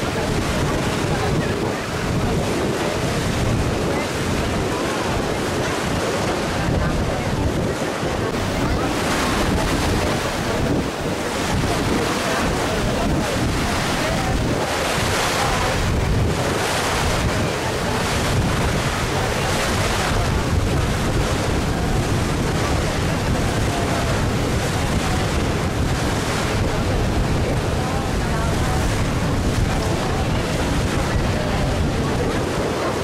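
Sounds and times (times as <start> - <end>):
water rushing along boat: 0.0 - 33.0
wind buffeting microphone: 0.0 - 33.0.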